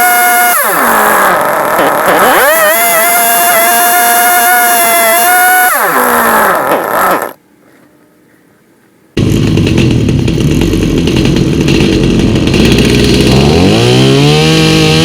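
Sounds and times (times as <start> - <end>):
chainsaw idling and revving: 0.0 - 7.4, 9.2 - 15.0.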